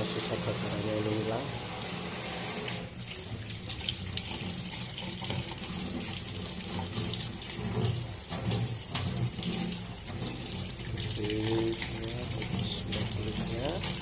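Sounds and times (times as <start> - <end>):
tap water running into sink: 0.0 - 14.0
water splashing: 0.0 - 14.0.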